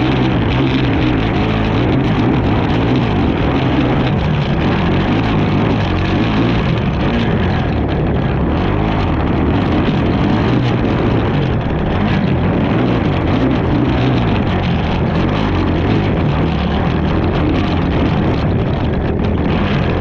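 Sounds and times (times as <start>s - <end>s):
racing atv engine running: 0.0s - 20.0s.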